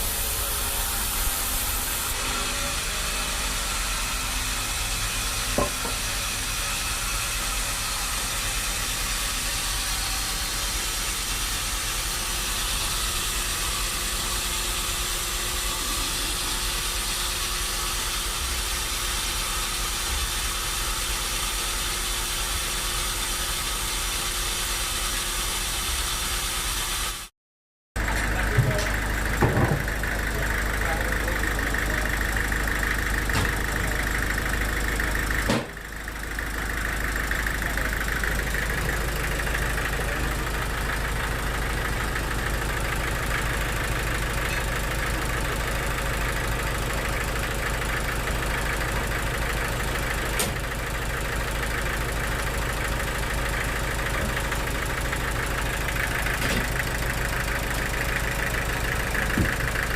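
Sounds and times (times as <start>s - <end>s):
engine running steadily: 0.0s - 27.3s, 28.0s - 59.9s.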